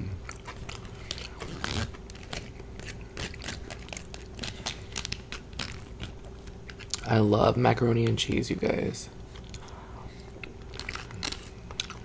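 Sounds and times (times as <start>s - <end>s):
person chewing: 0.0s - 7.1s, 9.2s - 12.0s.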